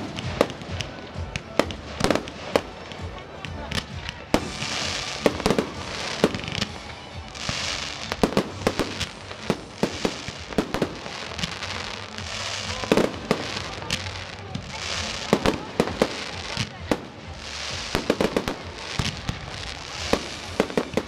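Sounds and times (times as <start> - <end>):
crackling firework glitter: 0.0 - 21.0.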